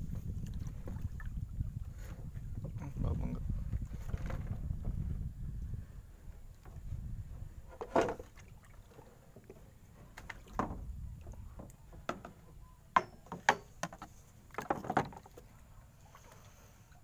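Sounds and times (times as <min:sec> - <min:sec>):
water splashing around a boat: 0:00.0 - 0:05.2, 0:06.0 - 0:17.0.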